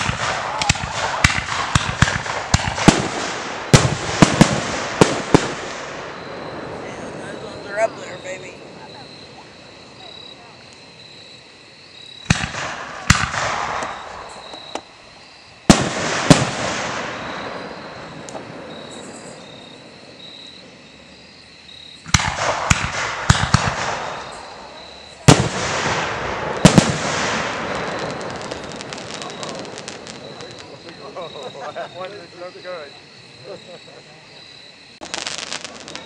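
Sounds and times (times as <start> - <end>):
fireworks exploding: 0.0 - 36.0.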